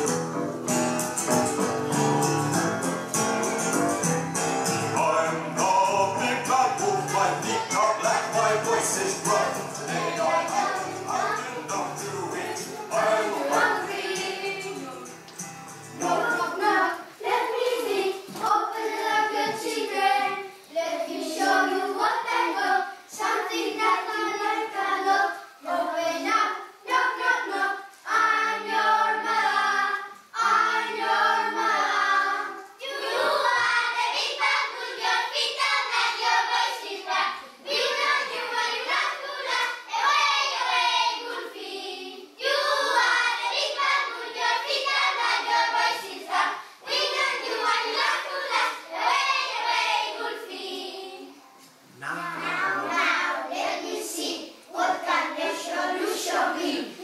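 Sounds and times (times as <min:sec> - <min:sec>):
young children singing: 0:04.8 - 0:57.0.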